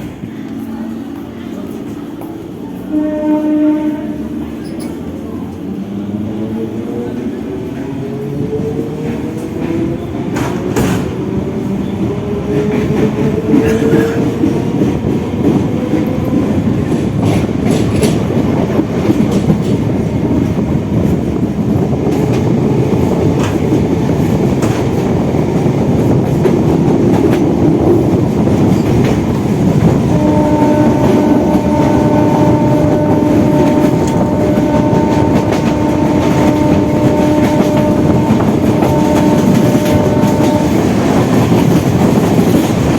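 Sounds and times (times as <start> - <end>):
rail clicks: 0.0 - 3.2, 3.8 - 42.9
train wheel and rail rumble: 0.0 - 42.9.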